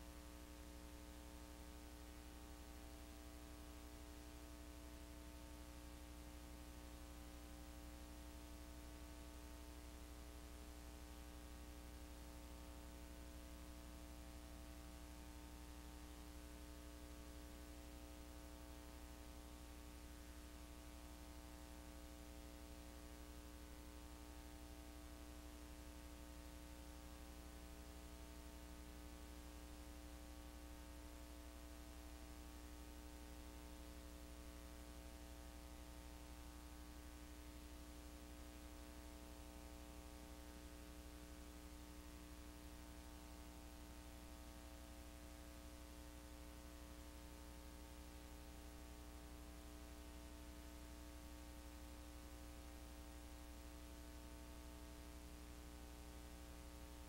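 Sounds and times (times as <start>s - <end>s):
electrical hum with hiss: 0.0s - 57.0s.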